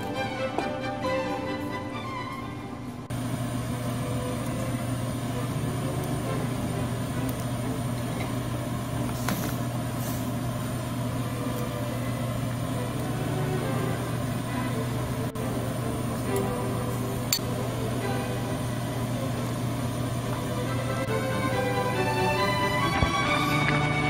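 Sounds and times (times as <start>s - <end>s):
soup boiling hard: 3.1s - 24.0s.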